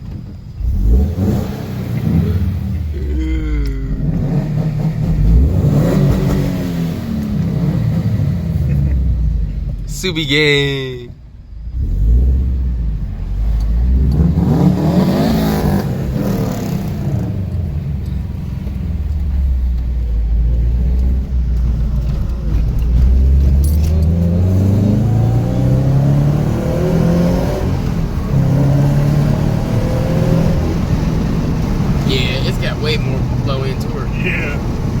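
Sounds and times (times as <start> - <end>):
car engine revving: 0.5 - 10.7, 11.4 - 35.0.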